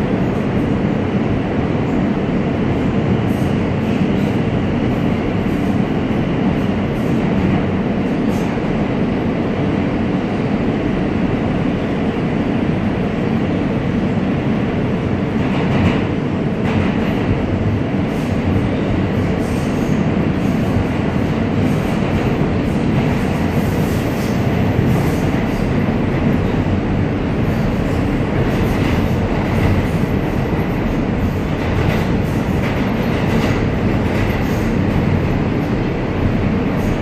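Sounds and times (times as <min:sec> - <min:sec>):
subway train wheels on rails: 0:00.0 - 0:37.0.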